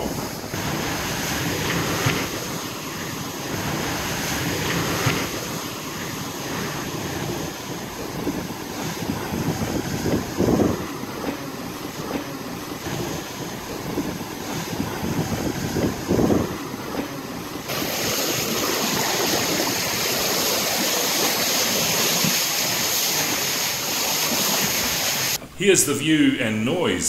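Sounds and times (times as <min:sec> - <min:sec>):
wind buffeting microphone: 0:00.0 - 0:23.4
water rushing past hulls: 0:00.0 - 0:25.5.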